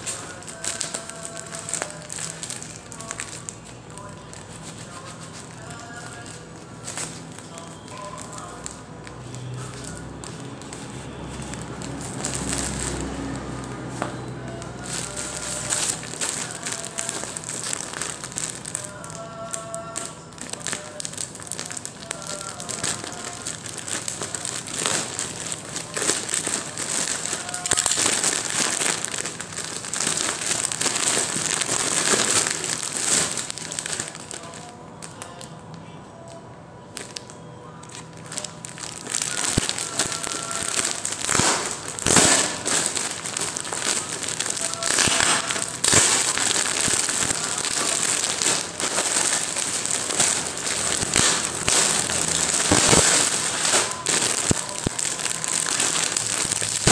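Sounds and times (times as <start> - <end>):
plastic packaging crinkling: 0.0 - 56.9.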